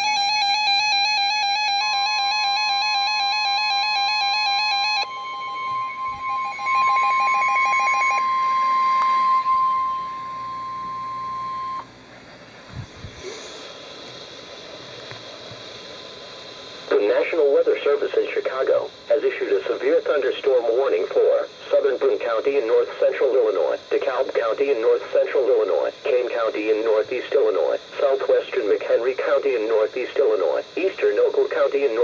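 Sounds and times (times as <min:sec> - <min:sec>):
steady warning tone: 0:00.0 - 0:32.0.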